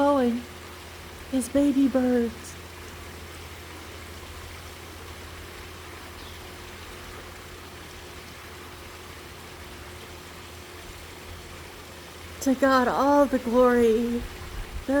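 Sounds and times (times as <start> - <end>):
constant low hum: 0.0 - 15.0
steady background hiss: 0.0 - 15.0.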